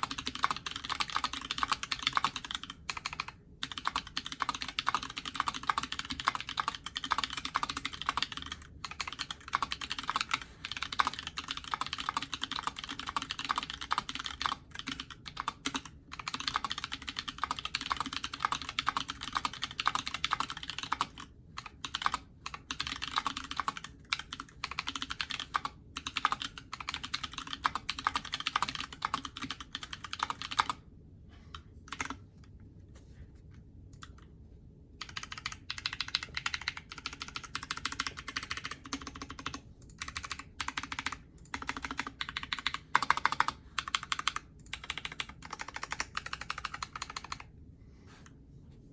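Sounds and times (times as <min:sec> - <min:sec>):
mechanical keyboard typing: 0:00.0 - 0:30.8, 0:31.9 - 0:32.2, 0:35.0 - 0:47.5.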